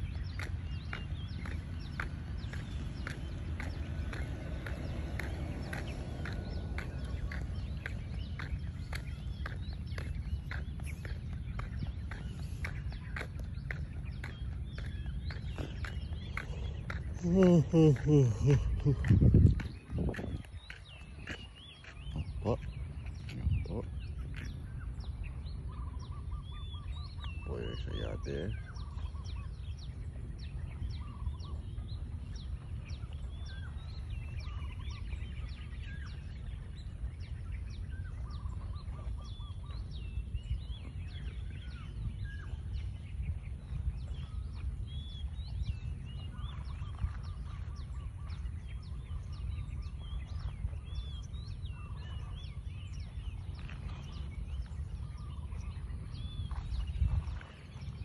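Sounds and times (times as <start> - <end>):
birds chirping and calling: 0.0 - 58.0
steady low rumble: 0.0 - 58.0.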